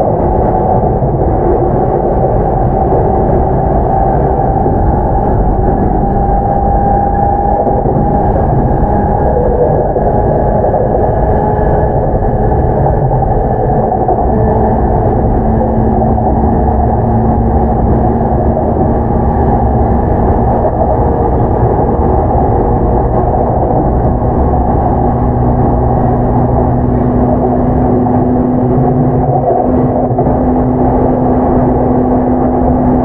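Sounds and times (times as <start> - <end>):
low hum: 0.0 - 33.0
train wheels rumbling on rail: 0.0 - 33.0.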